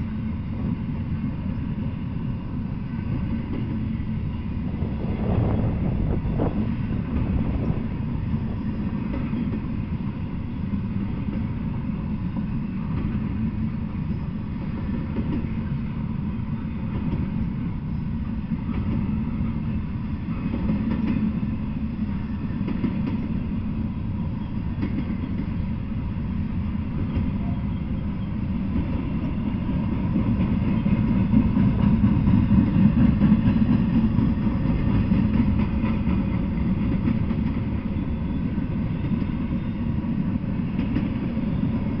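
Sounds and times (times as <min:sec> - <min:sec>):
freight train rumbling on rails: 0:00.0 - 0:42.0.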